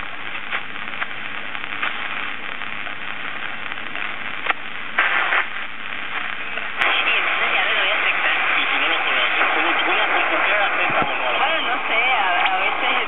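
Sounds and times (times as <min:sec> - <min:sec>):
burst of radio noise: 0:00.0 - 0:13.0
radio static hiss: 0:00.0 - 0:13.0.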